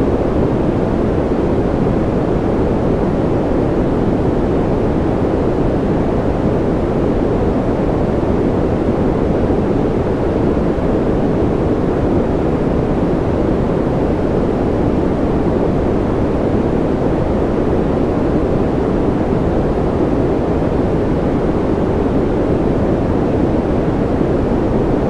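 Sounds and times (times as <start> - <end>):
white noise hiss: 0.0 - 25.0.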